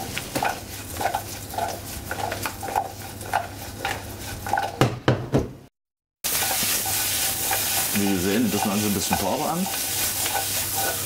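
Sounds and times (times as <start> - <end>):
butter sizzling: 0.0 - 4.8, 6.2 - 11.0.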